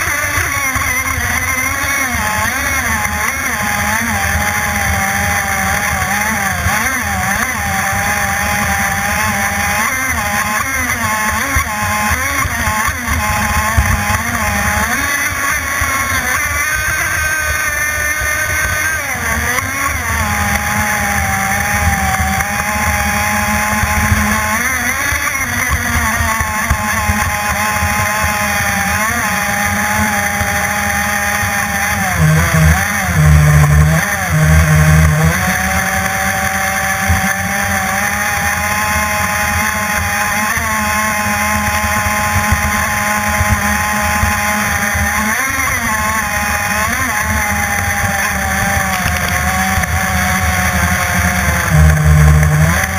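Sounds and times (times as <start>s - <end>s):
model boat engine whining: 0.0s - 52.9s.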